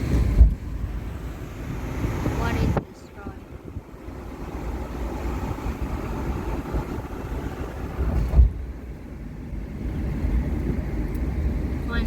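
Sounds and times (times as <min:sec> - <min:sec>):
car road rumble: 0:00.0 - 0:12.0
wind buffeting microphone: 0:00.0 - 0:12.0.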